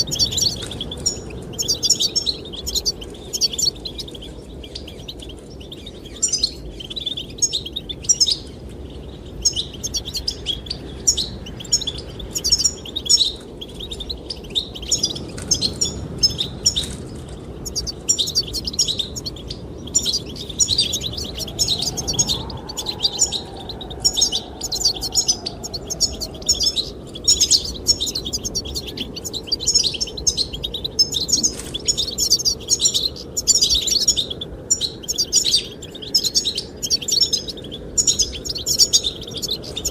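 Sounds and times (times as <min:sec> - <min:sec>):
finches twittering: 0:00.0 - 0:39.9
low rush of wind: 0:00.0 - 0:39.9.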